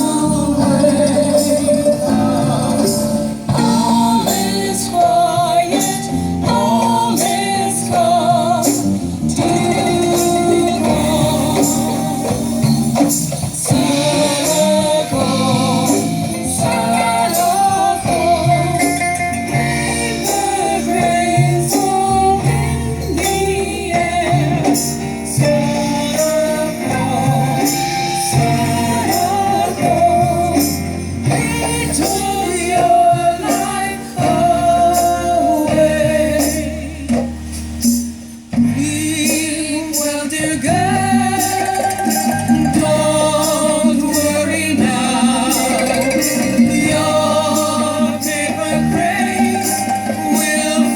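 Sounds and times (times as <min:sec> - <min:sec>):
person singing: 0:00.0 - 0:37.5, 0:38.6 - 0:50.9
instrumental backing with percussion: 0:00.0 - 0:50.9.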